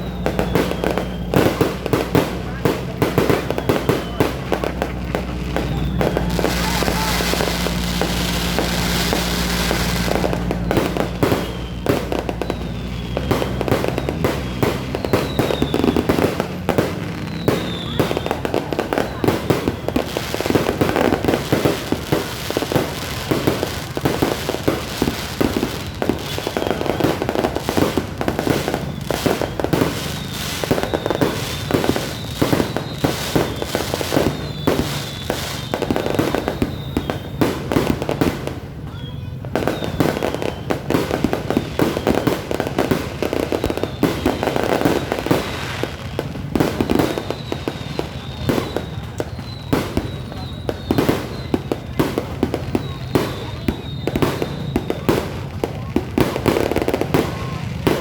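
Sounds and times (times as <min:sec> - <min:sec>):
falling firework whistles: 0:00.0 - 0:58.0
firecrackers banging and crackling: 0:00.0 - 0:58.0.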